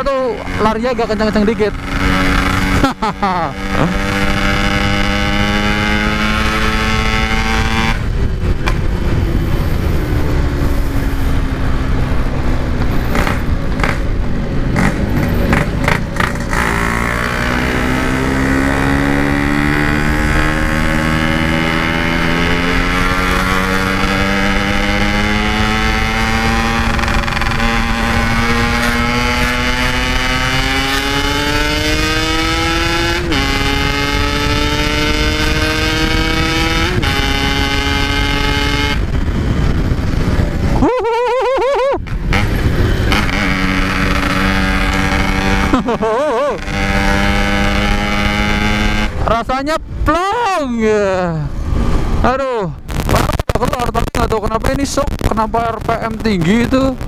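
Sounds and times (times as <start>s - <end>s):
two-stroke motorcycle engine revving: 0.0s - 40.9s, 42.0s - 49.4s.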